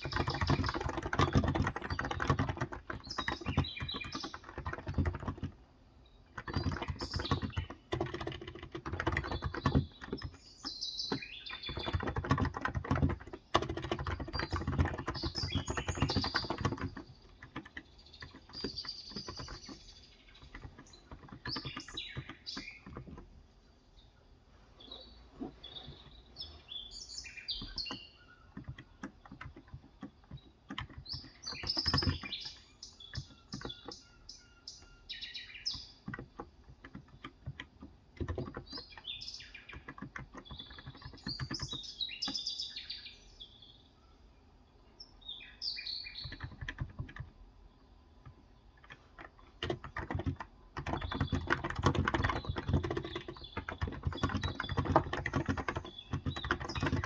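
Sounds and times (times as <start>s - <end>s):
soft keyboard typing: 0.0s - 5.7s, 6.3s - 23.5s, 27.3s - 42.6s, 46.2s - 57.0s
small birds chirping: 0.0s - 57.0s.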